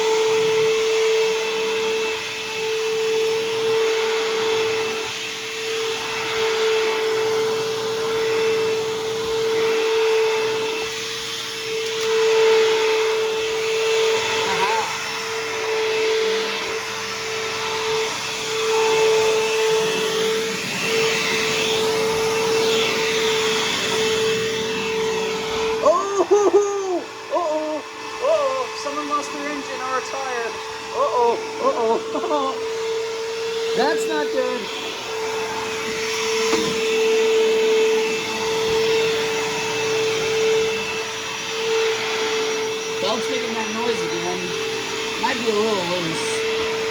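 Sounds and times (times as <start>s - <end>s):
vacuum belt noise: 0.0s - 46.9s
vacuum cleaner running: 0.0s - 46.9s.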